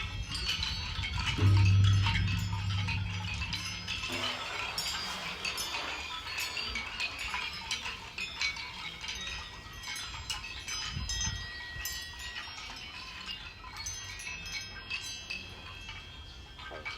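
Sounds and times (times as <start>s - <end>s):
small chimes clinking and ringing: 0.0s - 16.9s.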